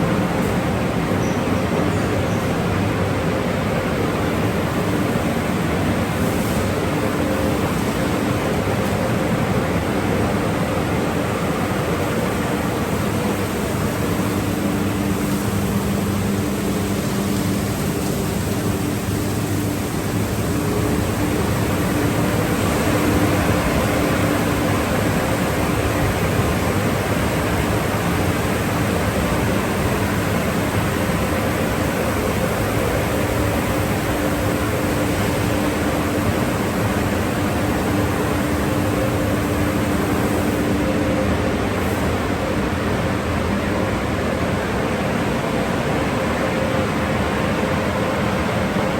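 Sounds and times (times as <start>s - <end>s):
car wash rushing noise: 0.0s - 48.9s.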